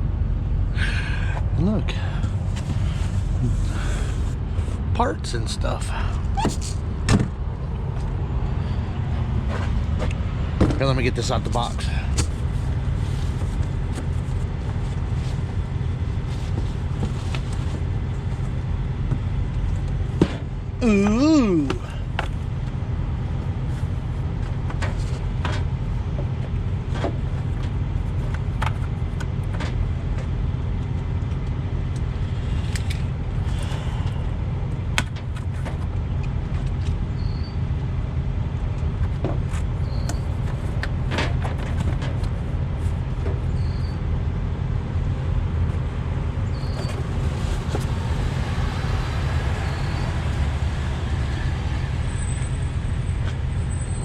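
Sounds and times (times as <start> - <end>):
diesel trucks idling: 0.0 - 54.0.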